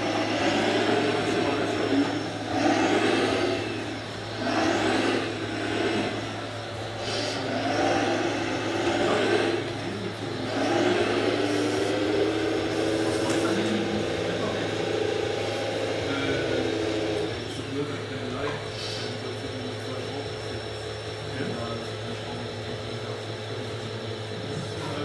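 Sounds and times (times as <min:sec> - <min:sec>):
model excavator hydraulics whining: 0:00.0 - 0:22.3.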